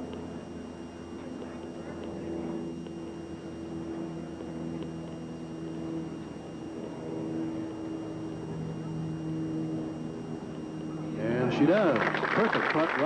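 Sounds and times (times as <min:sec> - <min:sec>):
television soundtrack hum and hiss: 0:00.0 - 0:13.0.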